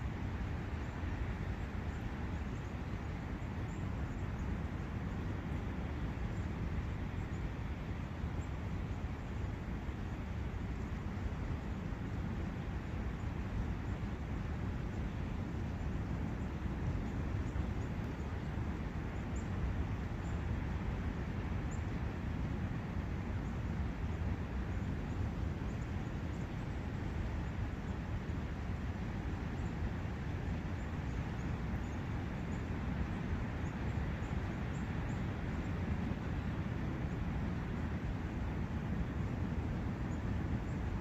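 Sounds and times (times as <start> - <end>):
wind: 0.0 - 41.0.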